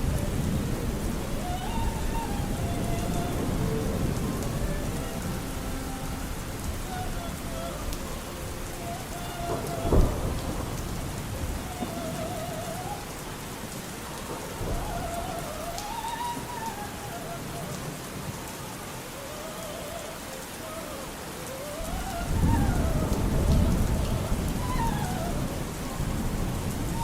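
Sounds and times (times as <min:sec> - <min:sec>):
low roll of thunder: 0:00.0 - 0:18.3, 0:21.8 - 0:27.0
muffled operatic singing: 0:00.0 - 0:27.0
steady rain: 0:00.0 - 0:27.0.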